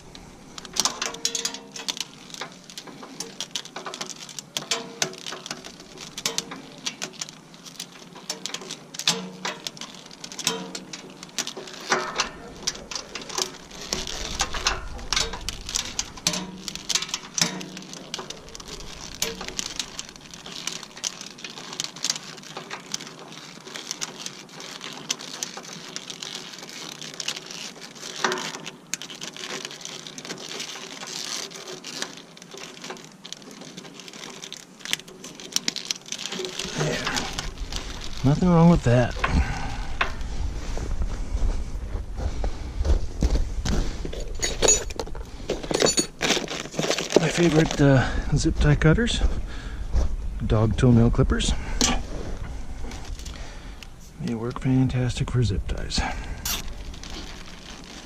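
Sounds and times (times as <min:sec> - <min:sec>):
plastic wrap crinkling and clicking: 0:00.0 - 0:41.1, 0:43.2 - 0:50.9, 0:51.6 - 0:58.0.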